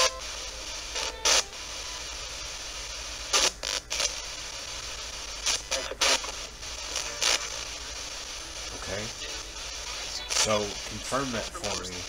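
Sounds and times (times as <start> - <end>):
loud bursts of radio noise: 0.0 - 12.0
radio static hiss: 0.0 - 12.0.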